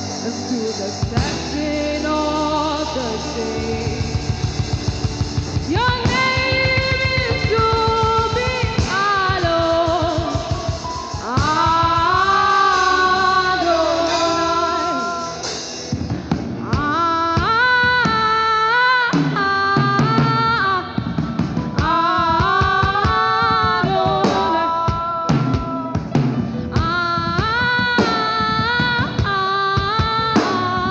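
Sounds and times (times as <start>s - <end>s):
drums: 0.0s - 30.9s
guitar: 0.0s - 30.9s
worship singing: 0.0s - 30.9s.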